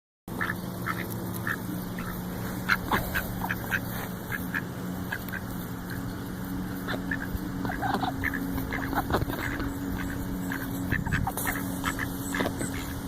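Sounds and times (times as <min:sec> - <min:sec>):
ducks quacking: 0:00.3 - 0:13.0
steady low hum: 0:00.3 - 0:13.0.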